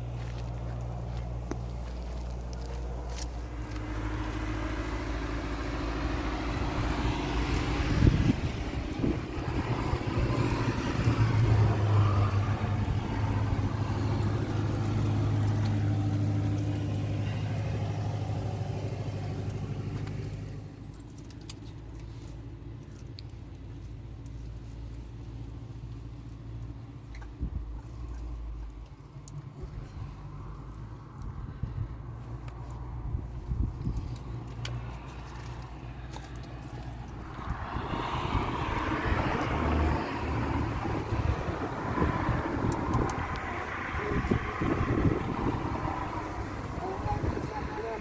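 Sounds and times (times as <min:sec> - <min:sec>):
engine running with low hum: 0:00.0 - 0:48.0.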